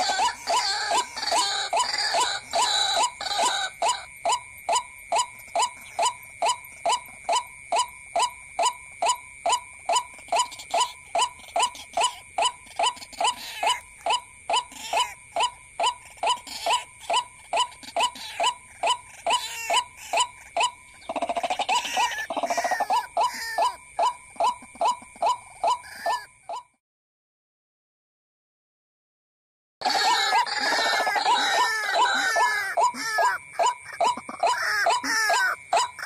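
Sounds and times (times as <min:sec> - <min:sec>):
waterhen calls: 0:00.0 - 0:26.3, 0:29.8 - 0:36.0.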